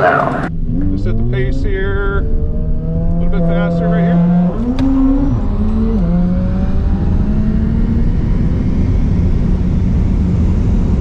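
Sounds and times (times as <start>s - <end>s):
steady low hum: 0.0s - 11.0s
wind and road noise: 0.0s - 11.0s.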